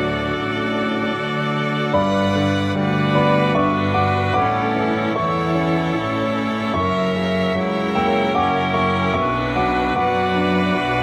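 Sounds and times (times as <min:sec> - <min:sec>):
slow sustained background music: 0:00.0 - 0:11.0.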